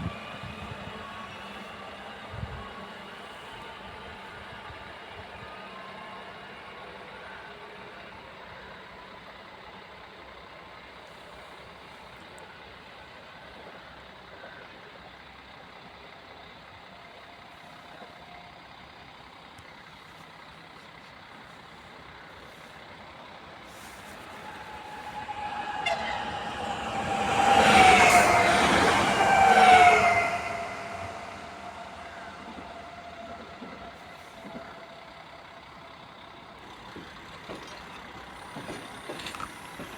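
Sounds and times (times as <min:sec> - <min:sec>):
train passing: 0:00.0 - 0:39.9.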